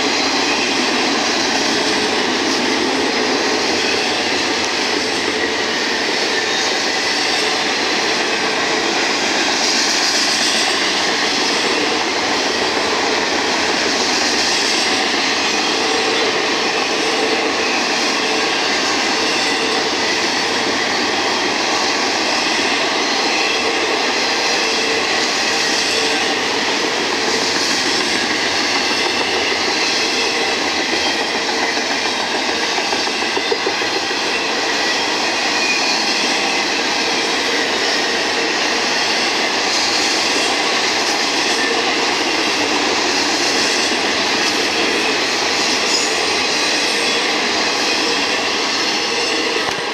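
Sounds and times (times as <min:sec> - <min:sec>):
freight train wheels on rail: 0:00.0 - 0:49.9.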